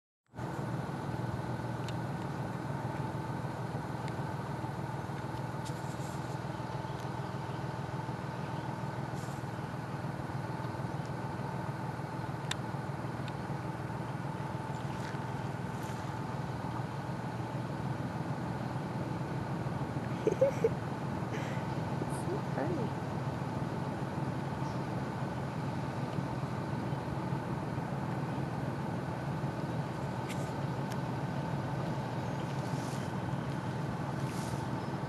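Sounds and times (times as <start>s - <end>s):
vehicle engine idling: 0.3s - 35.0s.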